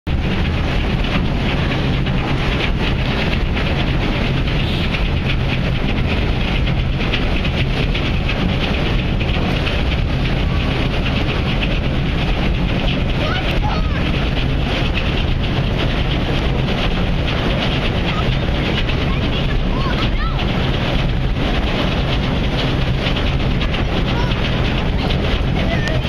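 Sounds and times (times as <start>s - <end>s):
ferry engine rumble: 0.0s - 26.0s
wind buffeting microphone: 0.1s - 26.0s.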